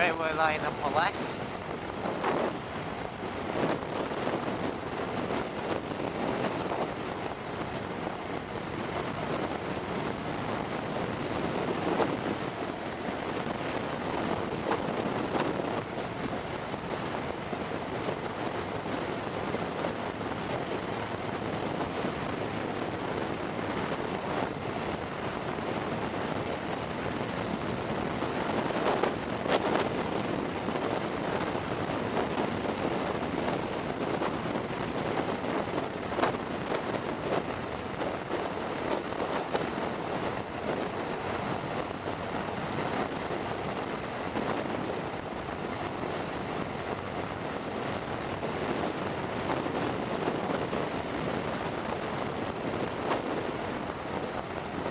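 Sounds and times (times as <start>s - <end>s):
road noise: 0.0s - 54.9s
wind buffeting microphone: 0.0s - 54.9s.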